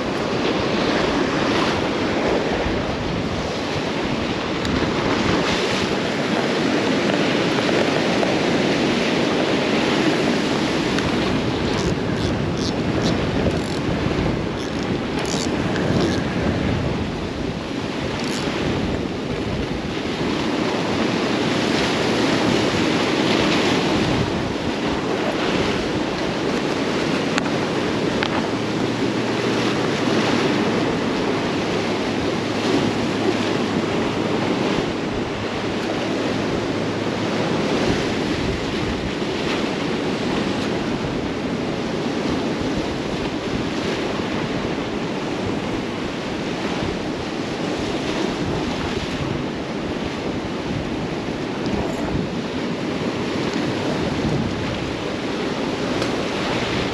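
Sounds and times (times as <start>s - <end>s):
surf breaking against rocks: 0.0s - 56.9s.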